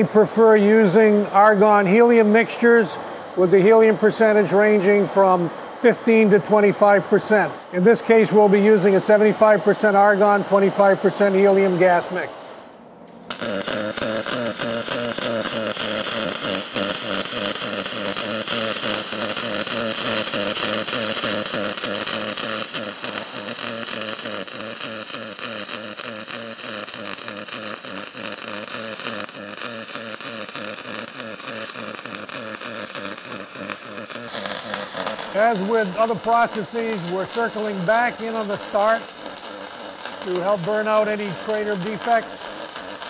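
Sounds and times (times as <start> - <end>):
pulsed welding arc buzzing: 5.8 - 43.0.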